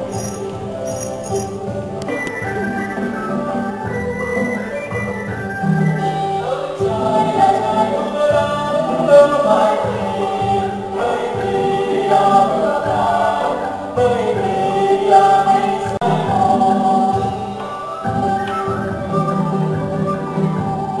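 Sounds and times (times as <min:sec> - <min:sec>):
group of voices singing: 0:00.0 - 0:21.0
instrumental accompaniment: 0:00.0 - 0:21.0.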